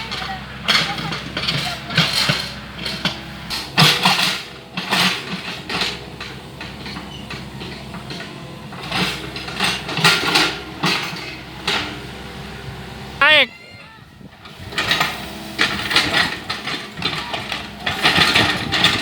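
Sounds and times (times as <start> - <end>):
mini excavator engine running: 0.0 - 19.0.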